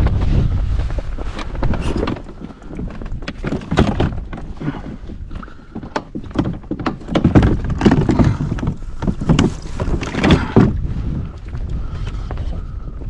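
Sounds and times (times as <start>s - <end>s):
irregular knocks and clatter: 0.0s - 13.0s
wind buffeting microphone: 0.0s - 13.0s.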